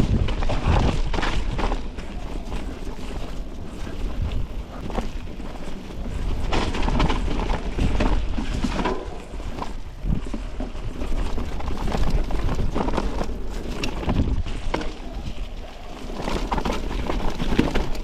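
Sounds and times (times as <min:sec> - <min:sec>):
bike rattling over rocks: 0:00.0 - 0:18.0
wind on microphone: 0:00.0 - 0:18.0.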